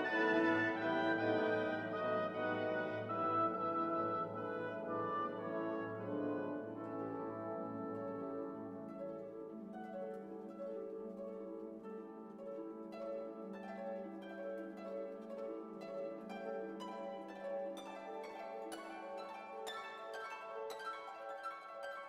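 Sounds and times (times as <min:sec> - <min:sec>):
harp and plucked strings music: 0:00.0 - 0:22.0.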